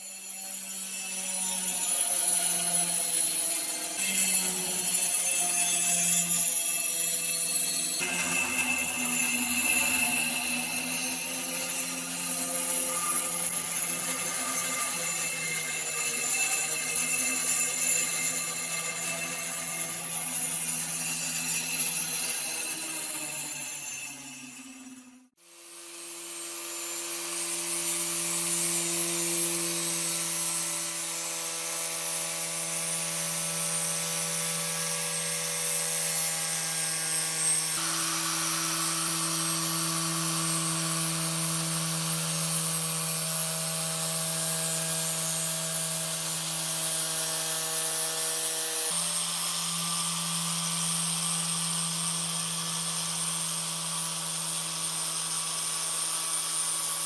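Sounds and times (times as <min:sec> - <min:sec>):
power tool motor humming: 0:00.0 - 0:57.0.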